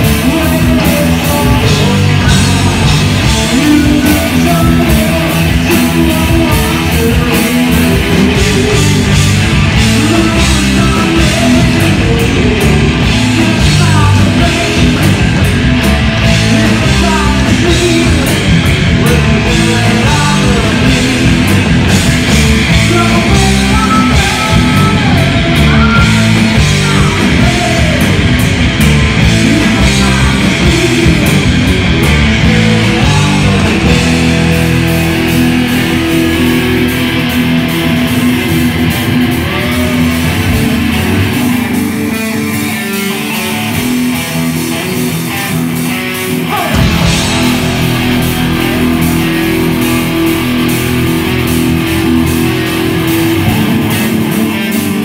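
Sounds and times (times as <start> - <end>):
person singing: 0.0 - 28.4, 29.2 - 55.0
heavy metal band playing live: 0.0 - 55.0.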